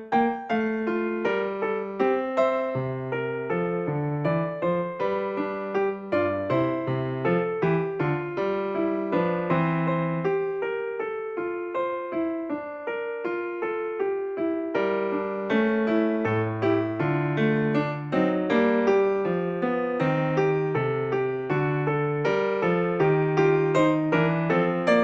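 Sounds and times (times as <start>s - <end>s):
piano melody over bass line: 0.0s - 25.0s.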